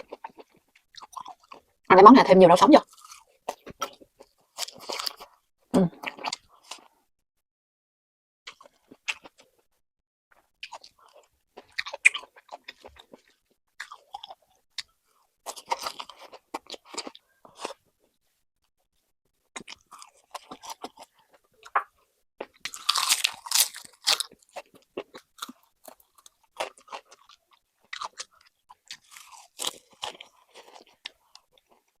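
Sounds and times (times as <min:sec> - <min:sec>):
chewing and crunching food: 0:00.0 - 0:01.8, 0:02.8 - 0:07.1, 0:08.5 - 0:09.7, 0:10.3 - 0:18.2, 0:18.9 - 0:32.0.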